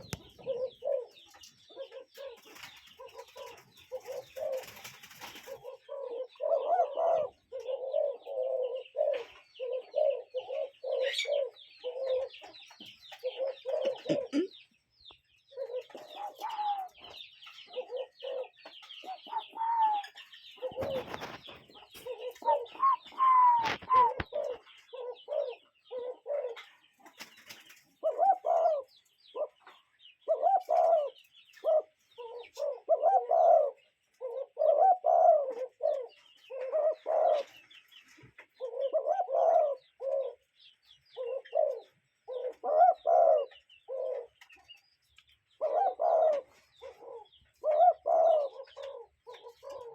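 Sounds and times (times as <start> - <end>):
birds cooing: 0.0 - 49.9
small birds chirping: 0.0 - 49.9.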